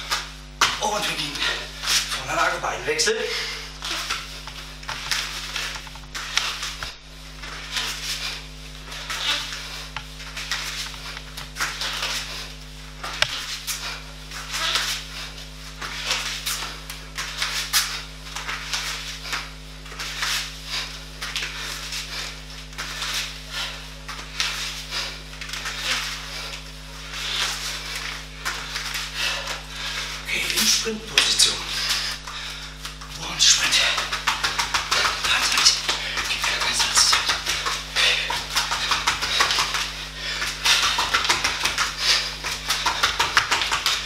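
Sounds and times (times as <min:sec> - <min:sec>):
low electrical hum: 0:00.0 - 0:44.0
feet and hands scuffing foam mat: 0:03.3 - 0:44.0.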